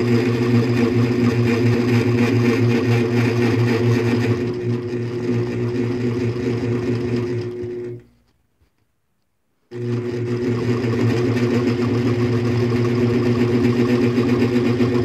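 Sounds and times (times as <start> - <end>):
quilting machine humming: 0.0 - 8.1, 9.7 - 15.0.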